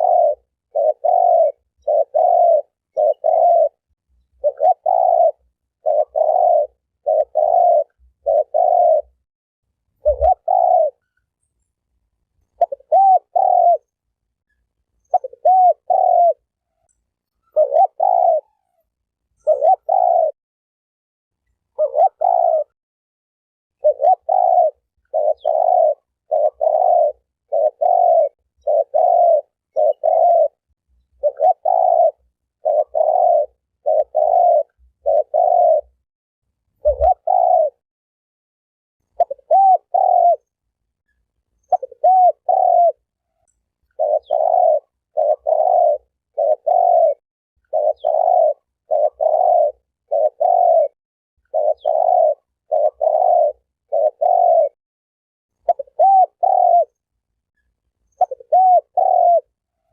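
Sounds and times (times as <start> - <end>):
dove cooing: 0.0 - 9.2, 10.0 - 11.2, 12.5 - 14.0, 15.0 - 20.4, 21.7 - 22.8, 23.8 - 36.0, 36.8 - 37.8, 39.1 - 40.5, 41.6 - 54.8, 55.6 - 57.0, 58.1 - 59.9.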